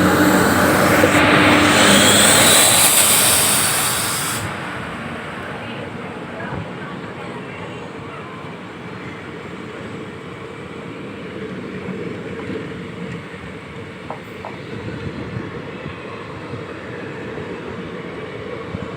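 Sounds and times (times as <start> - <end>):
train rumbling past: 0.0 - 18.7.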